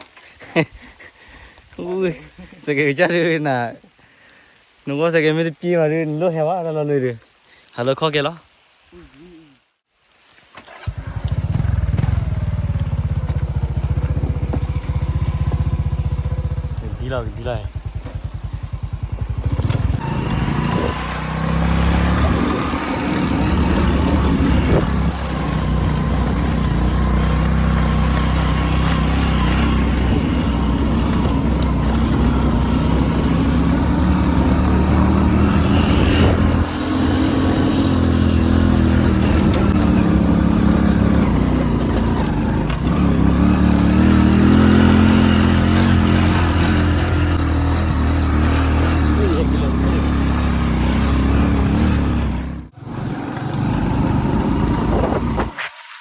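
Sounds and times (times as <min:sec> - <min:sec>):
motorcycle engine revving: 0:10.7 - 0:56.0.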